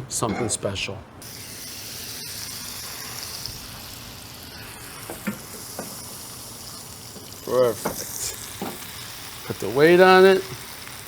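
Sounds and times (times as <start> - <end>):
sandwich sizzling in skillet: 1.2 - 11.0.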